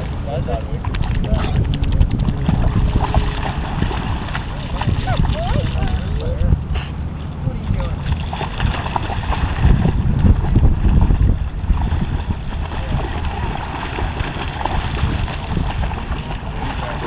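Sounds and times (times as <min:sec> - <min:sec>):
dogs splashing through water: 0:00.0 - 0:17.0
wind on microphone: 0:00.0 - 0:17.0.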